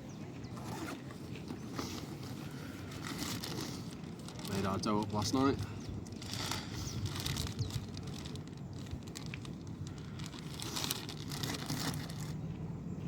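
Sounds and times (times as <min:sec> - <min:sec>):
plastic wrapping crinkling: 0:01.4 - 0:12.4.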